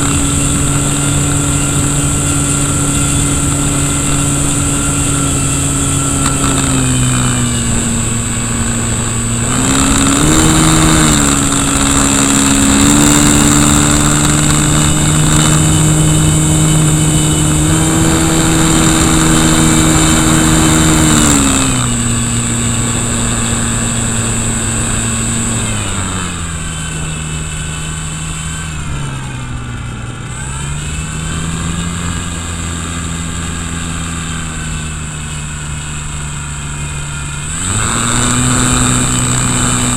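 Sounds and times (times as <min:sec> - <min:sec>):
electric motor spinning propeller: 0:00.0 - 0:39.9
high whine: 0:00.0 - 0:39.9.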